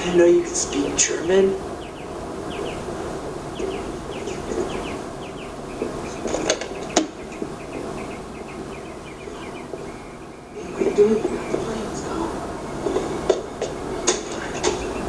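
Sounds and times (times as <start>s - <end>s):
background hiss: 0.0s - 15.0s
small animals chirping: 1.6s - 15.0s.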